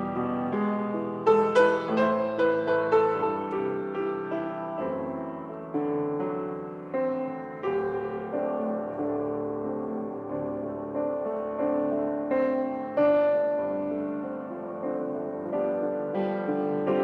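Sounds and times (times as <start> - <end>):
solo piano piece: 0.0 - 17.0.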